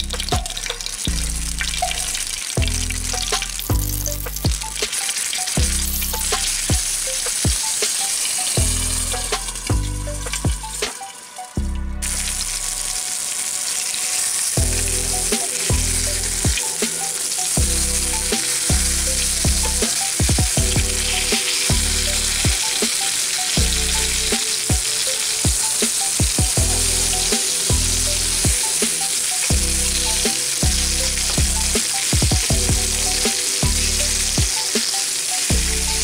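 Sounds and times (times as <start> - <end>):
background music beat: 0.0 - 36.0
oil sizzling and crackling: 0.0 - 36.0.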